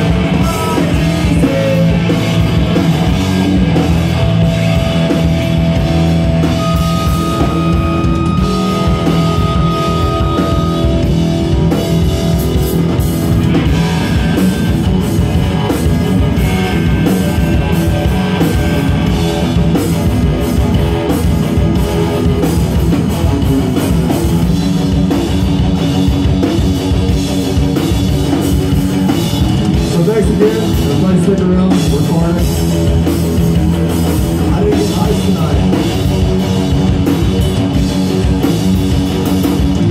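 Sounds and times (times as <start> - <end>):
punk rock band playing loudly: 0.0 - 39.9.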